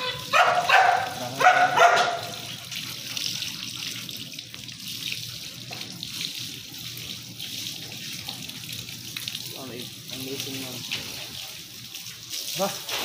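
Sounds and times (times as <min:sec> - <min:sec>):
hose water splashing on concrete: 0:00.0 - 0:13.0.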